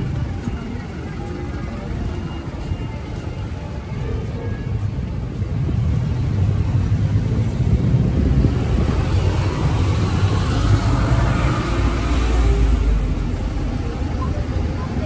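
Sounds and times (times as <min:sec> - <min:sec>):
street rumble: 0:00.0 - 0:15.0.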